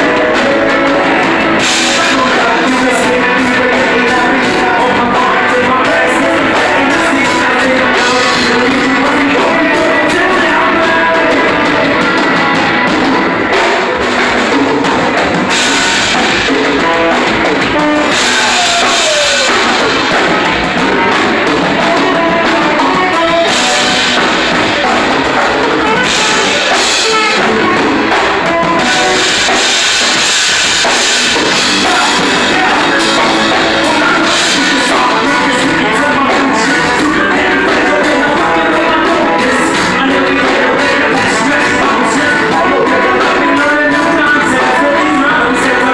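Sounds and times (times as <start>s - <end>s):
drum kit: 0.0s - 45.9s
electric guitars: 0.0s - 45.9s
keyboard: 0.0s - 45.9s
person singing: 0.0s - 45.9s.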